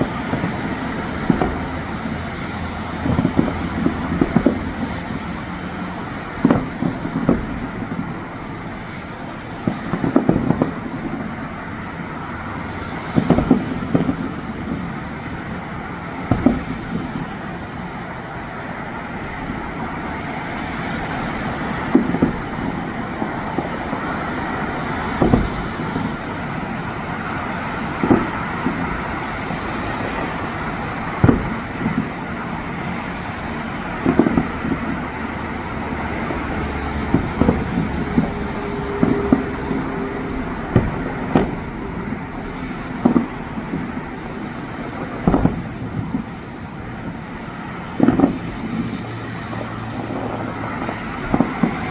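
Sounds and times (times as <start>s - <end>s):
fireworks booming and crackling: 0.0s - 51.9s
steady background noise: 0.0s - 51.9s.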